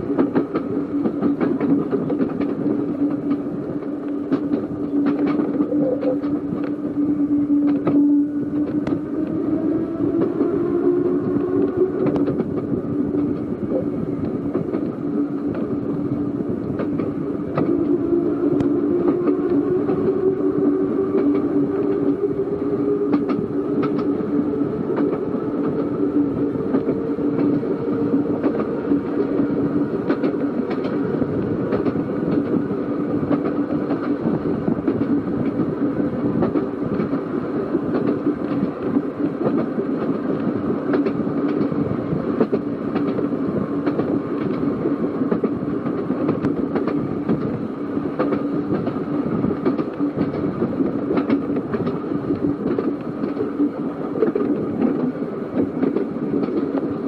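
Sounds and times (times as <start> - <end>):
electric tram running with hum: 0.0 - 57.0.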